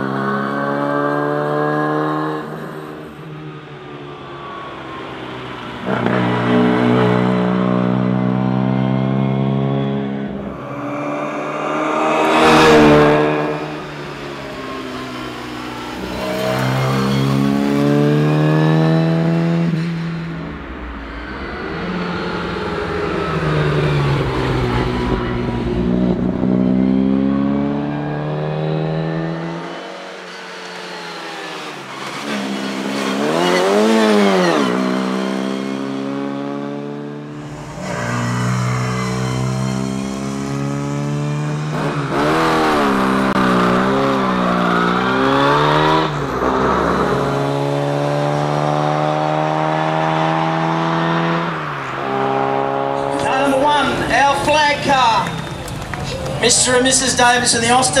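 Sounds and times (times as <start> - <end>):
car engine revving through gears: 0.0 - 3.6, 4.5 - 56.0.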